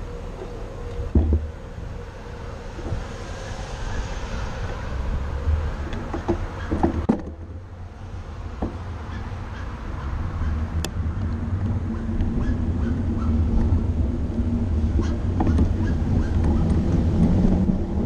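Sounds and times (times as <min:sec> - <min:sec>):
city street traffic: 0:00.0 - 0:18.0
wind rumble on microphone: 0:00.0 - 0:18.0.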